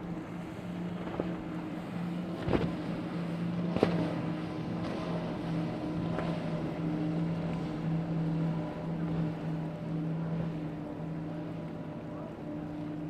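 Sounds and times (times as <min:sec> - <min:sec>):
motorboat engine running: 0:00.0 - 0:13.0
water noise: 0:00.0 - 0:13.0.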